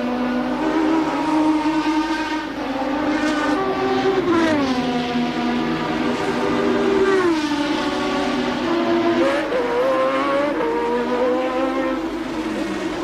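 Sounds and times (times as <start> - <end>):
racing car engine running hard: 0.0 - 13.0.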